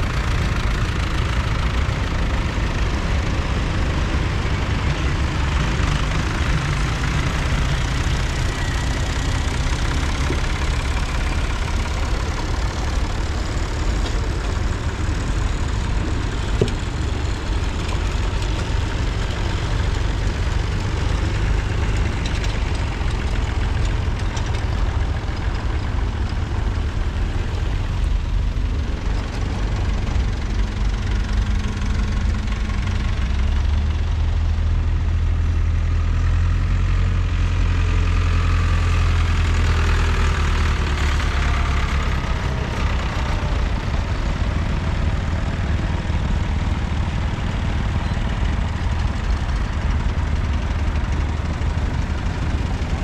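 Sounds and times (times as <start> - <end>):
tractor engines rumbling: 0.0 - 53.0.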